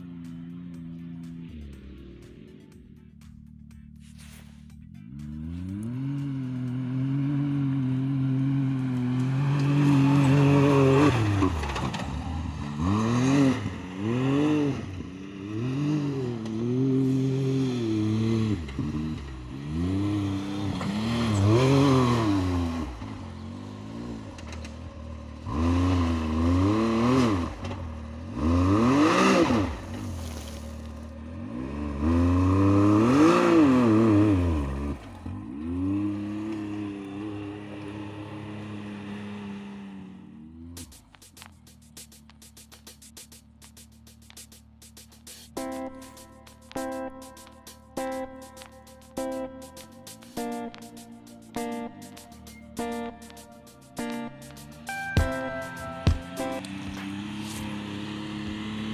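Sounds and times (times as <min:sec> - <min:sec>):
engine revving: 0:00.0 - 0:58.9.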